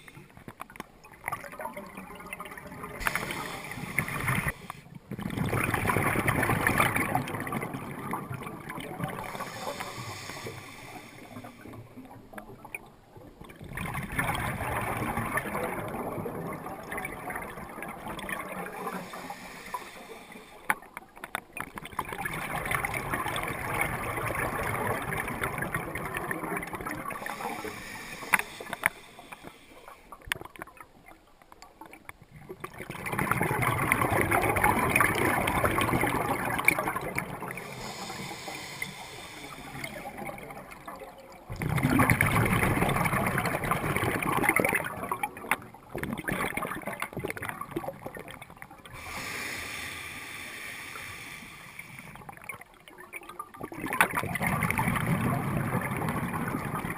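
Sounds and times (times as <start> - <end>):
waves running in and out: 0.0 - 31.2, 31.8 - 56.9.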